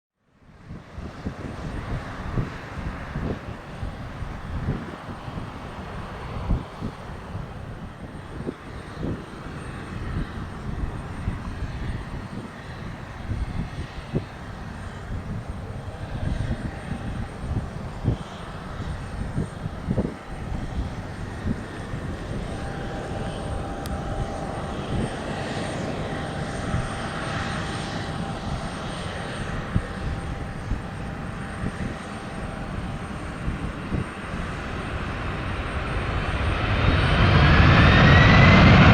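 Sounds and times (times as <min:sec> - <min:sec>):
jet engine whine: 0:00.2 - 0:38.9
distant jet engine rumble: 0:00.5 - 0:38.9
wind on microphone: 0:00.6 - 0:38.9.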